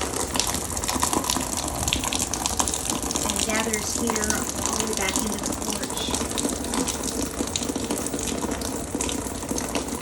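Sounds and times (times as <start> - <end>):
rainwater gushing onto ground: 0.0 - 10.0.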